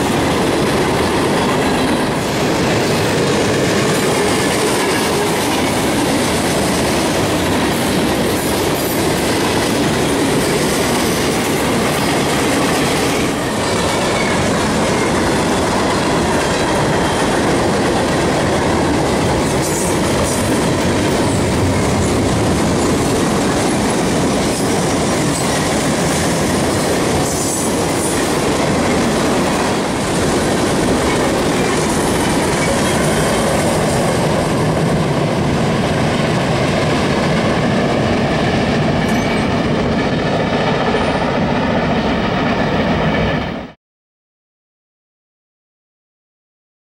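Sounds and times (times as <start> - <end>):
freight train wheels clattering on rails: 0.0 - 43.7.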